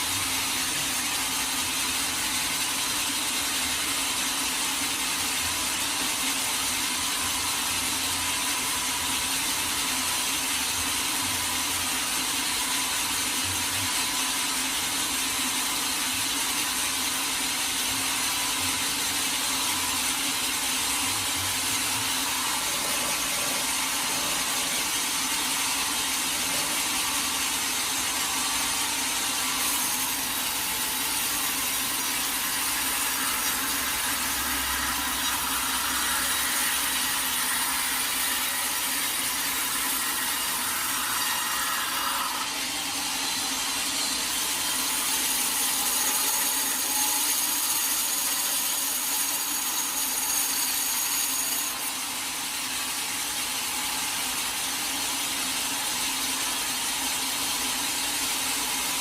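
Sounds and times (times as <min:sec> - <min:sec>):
sawmill blade cutting log: 0:00.0 - 0:59.0.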